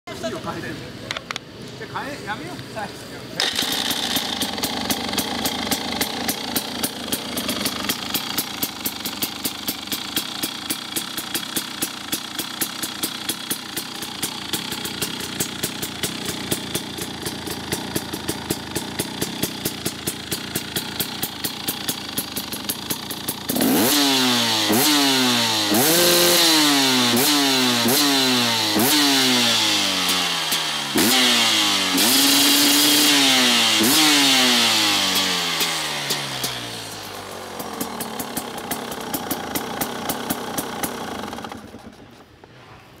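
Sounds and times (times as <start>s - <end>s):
motorcycle engine idling and revving: 0.1s - 43.0s.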